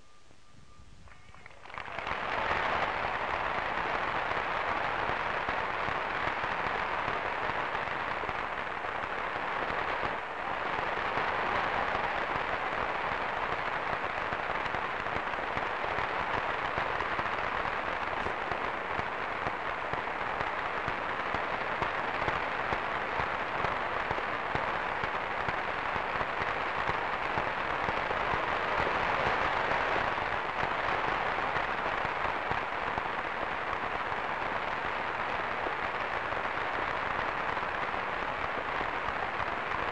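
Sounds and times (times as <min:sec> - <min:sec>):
crowd applauding: 0:01.1 - 0:39.9.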